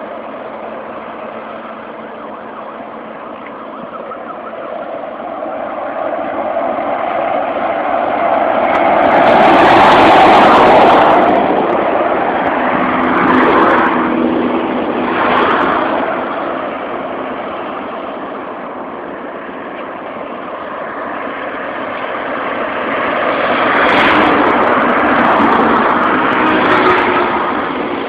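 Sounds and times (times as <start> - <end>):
highway traffic passing: 0.0 - 28.0
low engine drone: 0.0 - 28.0.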